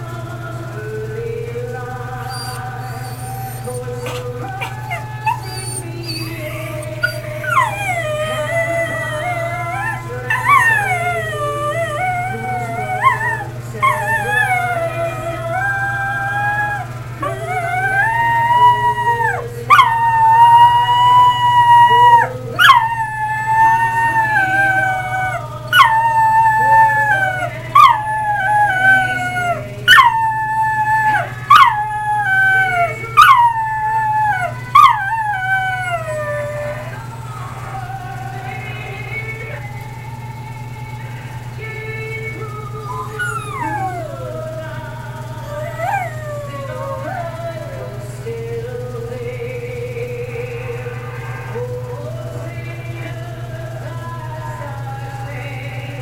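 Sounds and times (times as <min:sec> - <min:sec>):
dog howling: 0:00.0 - 0:56.0.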